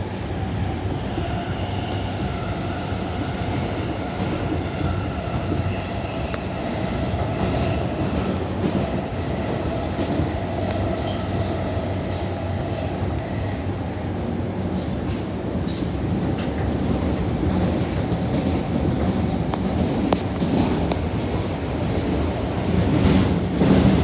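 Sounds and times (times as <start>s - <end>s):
subway wheels on rail: 0.0s - 24.0s.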